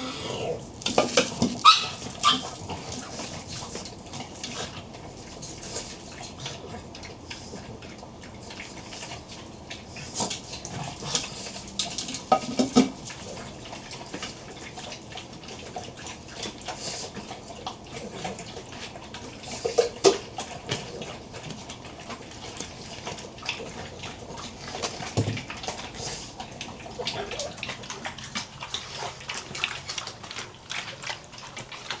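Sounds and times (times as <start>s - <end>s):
dogs crunching food in bowl: 0.0s - 32.0s.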